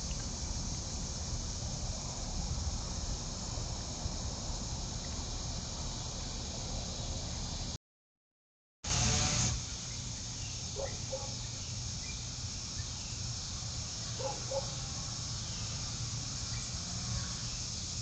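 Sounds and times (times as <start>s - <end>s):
even hiss: 0.0s - 7.8s, 8.9s - 18.0s
faint insect chorus: 0.0s - 7.8s, 9.1s - 18.0s.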